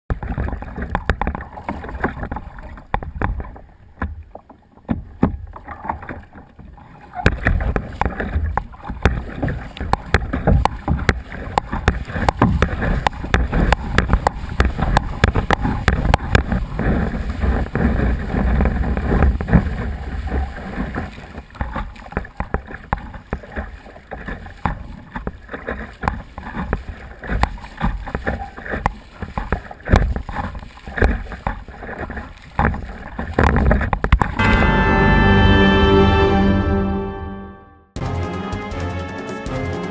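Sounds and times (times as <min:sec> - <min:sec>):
water splashing around hull: 0:00.1 - 0:36.9.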